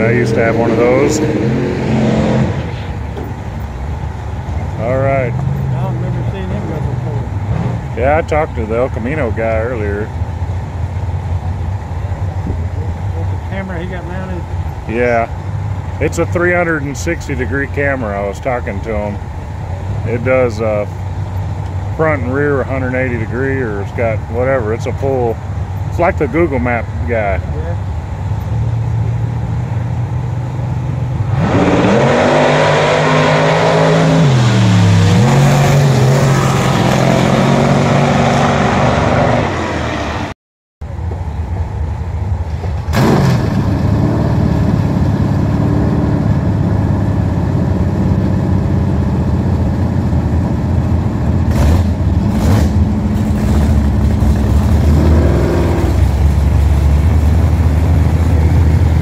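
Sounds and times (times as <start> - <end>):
racing car engines at full throttle: 0.0 - 59.0.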